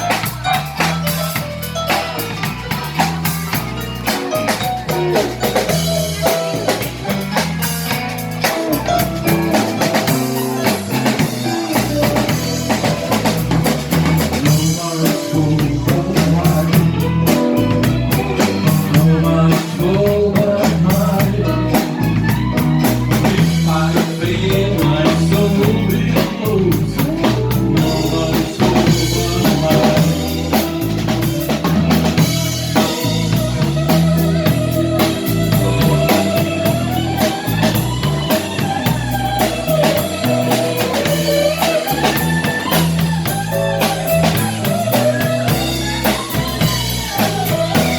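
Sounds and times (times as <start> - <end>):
drum kit beating: 0.0 - 47.9
rock band playing: 0.0 - 47.9.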